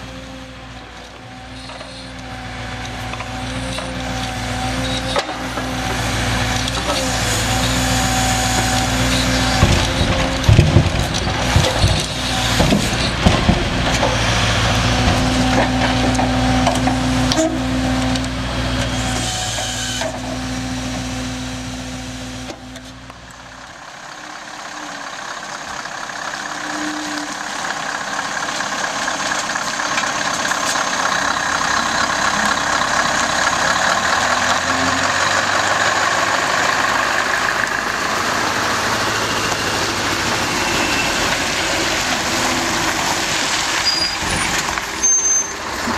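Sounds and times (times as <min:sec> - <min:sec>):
truck driving past: 0:00.0 - 0:45.9
truck engine running: 0:00.0 - 0:45.9.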